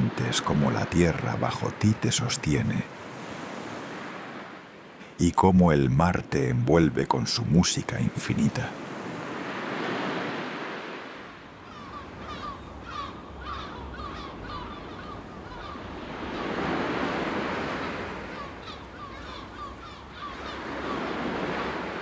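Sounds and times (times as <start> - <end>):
sea waves washing onto shore: 0.0 - 12.6, 15.0 - 22.0.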